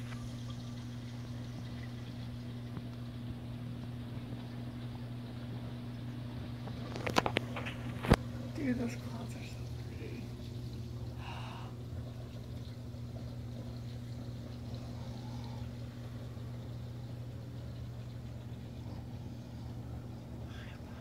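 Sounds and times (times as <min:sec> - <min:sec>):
aquarium pump hum: 0:00.0 - 0:21.0
faint running water: 0:00.0 - 0:21.0.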